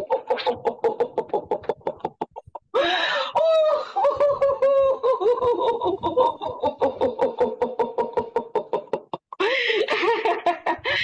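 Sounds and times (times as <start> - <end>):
breathy laugh: 0.0 - 11.0.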